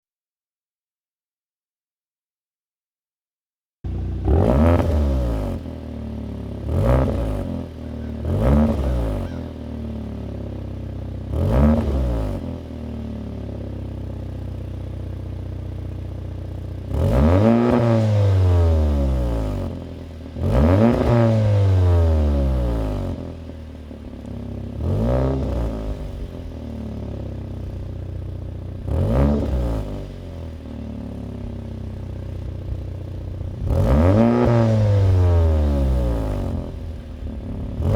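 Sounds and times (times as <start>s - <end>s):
car engine revving: 3.9s - 13.6s, 16.8s - 37.9s.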